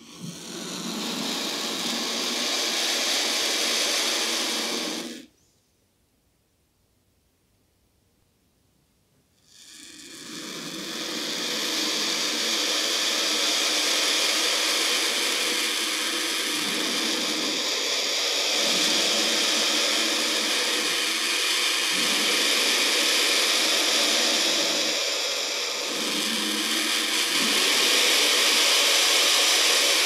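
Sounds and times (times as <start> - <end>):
vulture hissing: 0.0 - 5.3, 9.4 - 30.0.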